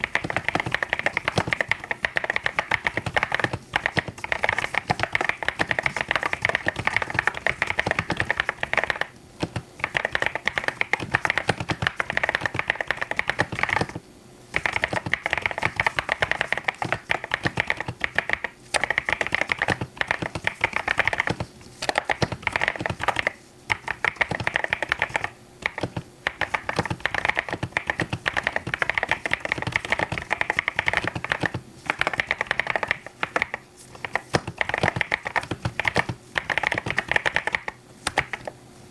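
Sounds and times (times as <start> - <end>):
mechanical keyboard typing: 0.0 - 38.5.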